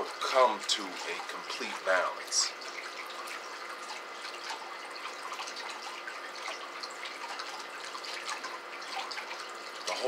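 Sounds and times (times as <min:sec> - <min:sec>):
fountain trickling into basin: 0:00.0 - 0:10.0
water drips and splashes: 0:00.0 - 0:10.0.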